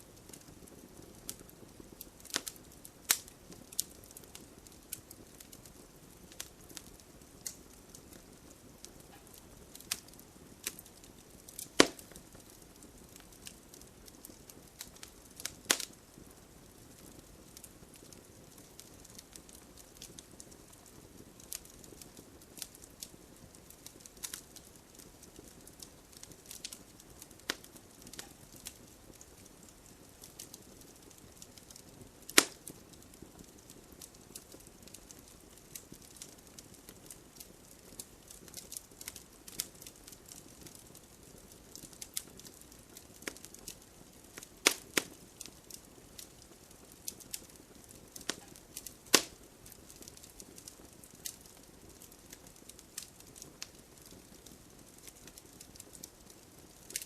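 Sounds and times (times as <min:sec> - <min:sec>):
campfire crackling: 0:00.0 - 0:57.0
loud fire pops: 0:00.2 - 0:57.0.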